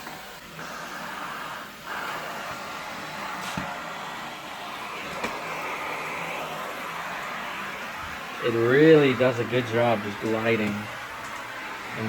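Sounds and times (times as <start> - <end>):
vacuum suction hiss: 0.0 - 12.0.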